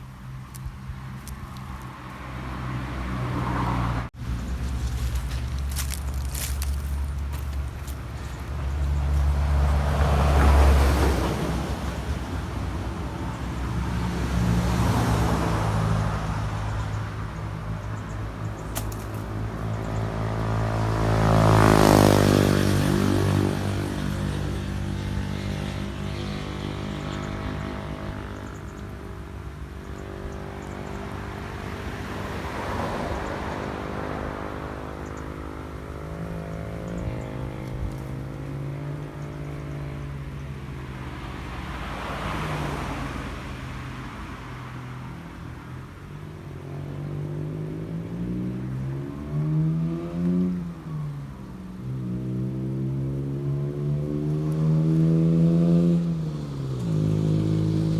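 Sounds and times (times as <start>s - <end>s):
motor vehicles passing: 0.0s - 57.9s.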